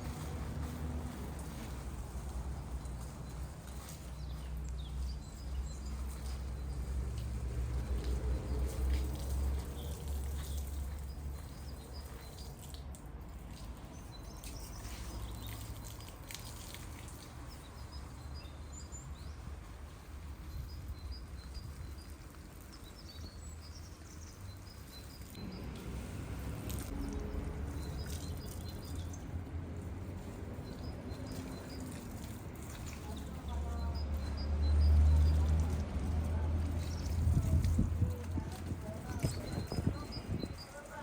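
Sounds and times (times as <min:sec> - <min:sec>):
small birds chirping: 0:00.7 - 0:12.9, 0:13.6 - 0:26.0, 0:26.6 - 0:29.4, 0:30.1 - 0:41.0.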